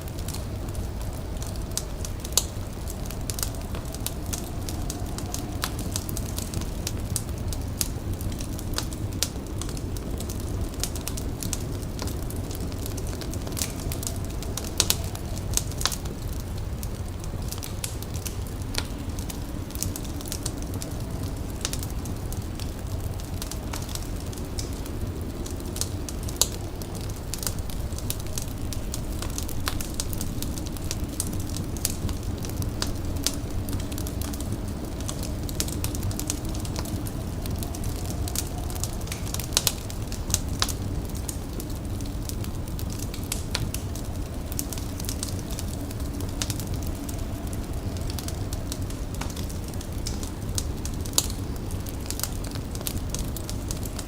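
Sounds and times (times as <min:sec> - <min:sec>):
fire crackling and popping: 0:00.0 - 0:54.0
steady low rumble: 0:00.0 - 0:54.0.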